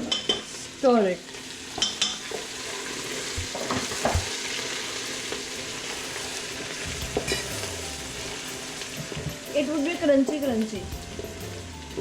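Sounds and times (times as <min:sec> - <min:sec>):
spices sizzling in hot fat: 0:00.0 - 0:12.0.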